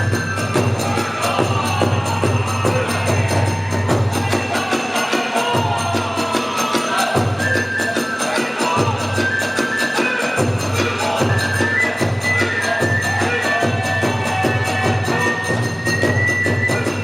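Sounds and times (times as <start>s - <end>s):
fast drum beats: 0.0s - 17.0s
hand cymbals jingling: 0.0s - 17.0s
high bamboo flute: 0.0s - 17.0s.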